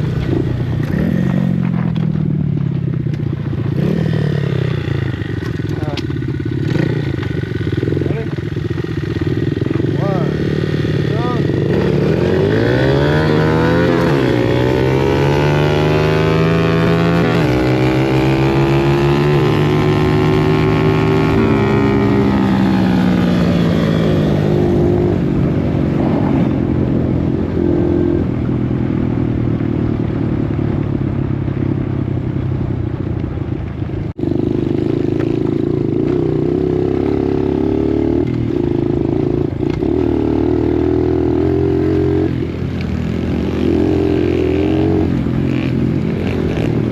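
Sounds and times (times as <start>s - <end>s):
dirt bike engine running: 0.0s - 46.9s.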